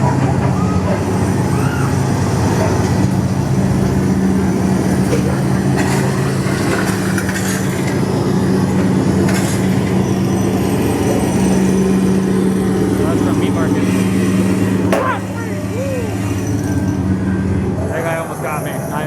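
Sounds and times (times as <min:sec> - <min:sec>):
low droning hum: 0:00.0 - 0:19.0.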